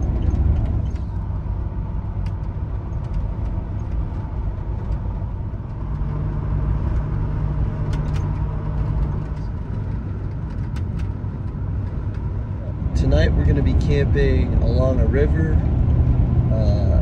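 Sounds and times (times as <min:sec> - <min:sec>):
low engine hum: 0:00.0 - 0:17.0
truck engine and road rumble: 0:00.0 - 0:17.0.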